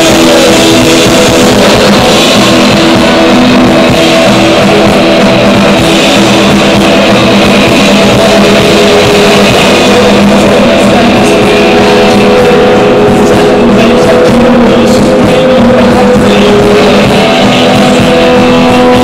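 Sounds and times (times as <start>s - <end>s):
electric guitar: 0.0s - 19.0s
live band playing loud: 0.0s - 19.0s.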